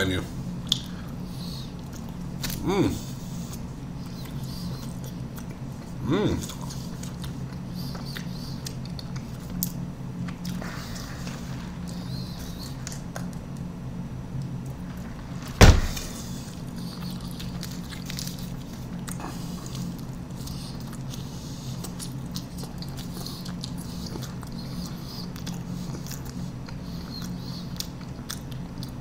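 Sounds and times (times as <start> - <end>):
chewing: 0.5 - 13.7, 16.0 - 29.0.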